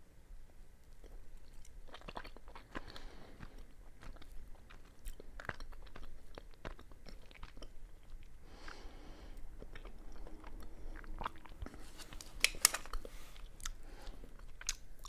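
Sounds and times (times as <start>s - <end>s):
wet chewing clicks and smacks: 0.8s - 15.0s.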